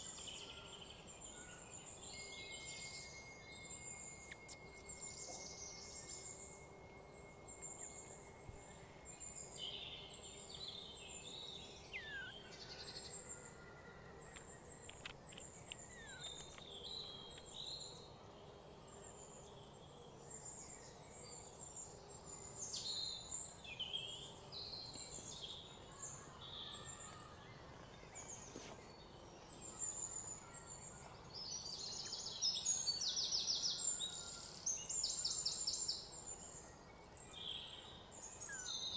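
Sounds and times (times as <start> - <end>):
birds chirping: 0.0 - 38.9
faint outdoor background noise: 0.0 - 38.9.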